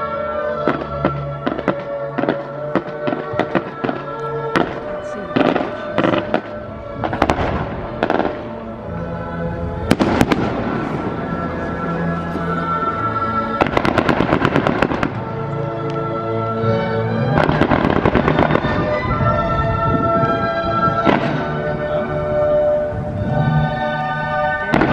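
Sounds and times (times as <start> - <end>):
fireworks banging and crackling: 0.0 - 16.1, 17.0 - 23.8, 24.4 - 24.9
music playing: 0.0 - 24.9.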